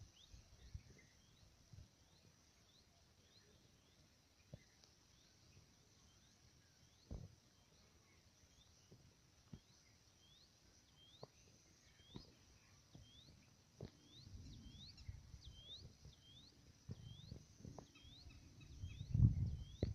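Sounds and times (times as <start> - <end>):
steady high hiss: 0.0 - 19.9.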